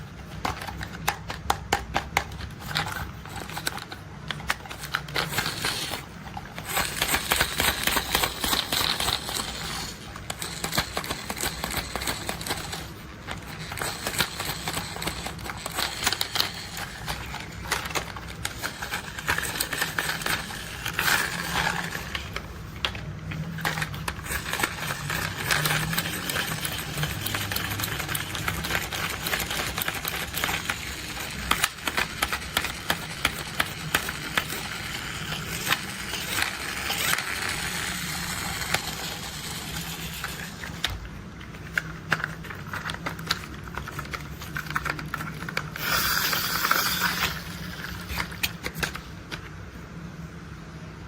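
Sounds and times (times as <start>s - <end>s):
plastic toy parts clicking: 0.2s - 49.4s.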